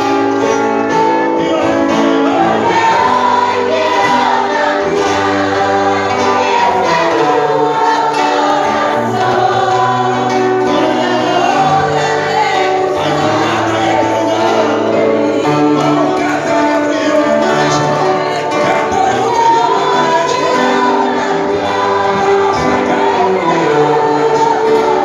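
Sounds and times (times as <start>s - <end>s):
congregation singing a hymn: 0.0s - 25.0s.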